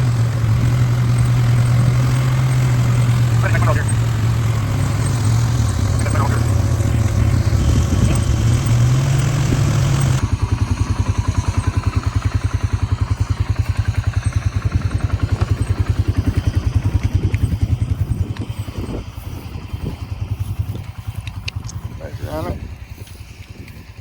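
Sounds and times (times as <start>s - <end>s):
tractor engine pulsing: 0.0s - 24.0s.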